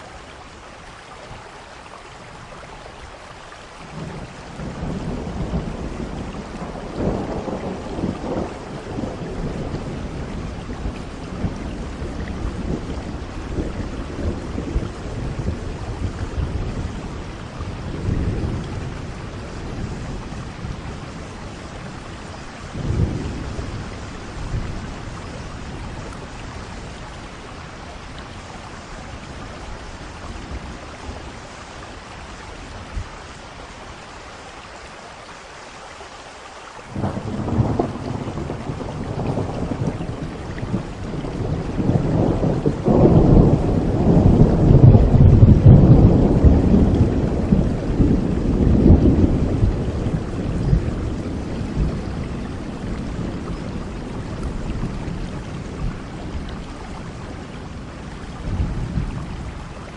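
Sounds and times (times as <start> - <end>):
steady rain falling: 0.0 - 59.9
thunder rumbling: 3.9 - 33.1, 36.9 - 59.9.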